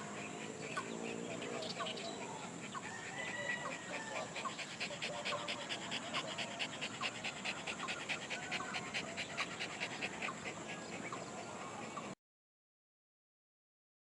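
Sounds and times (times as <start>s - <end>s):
dog panting: 0.0s - 12.2s.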